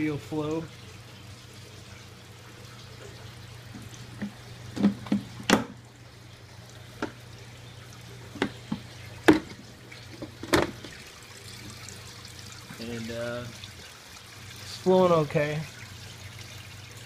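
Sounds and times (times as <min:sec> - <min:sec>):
water running through filter: 0:00.0 - 0:17.0.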